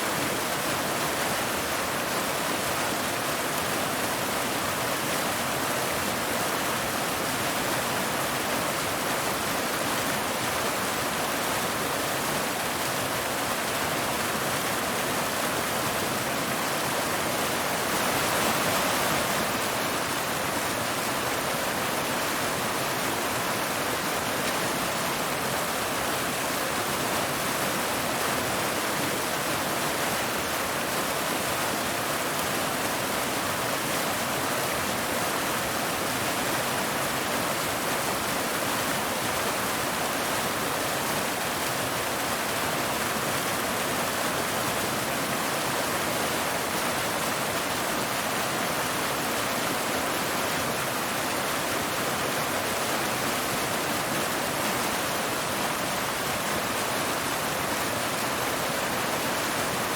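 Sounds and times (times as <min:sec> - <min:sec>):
waterfall pouring over rocks: 0:00.0 - 0:59.9.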